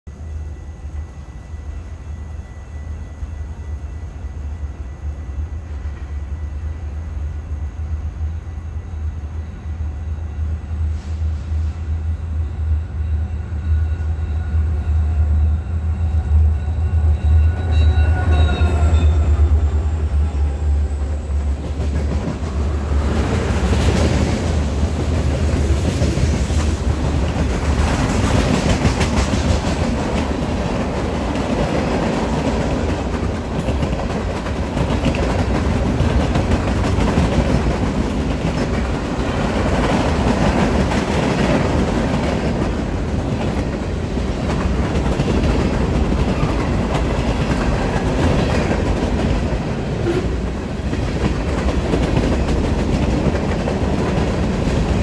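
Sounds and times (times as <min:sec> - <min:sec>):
diesel locomotive rumble and whine: 0:00.0 - 0:55.0.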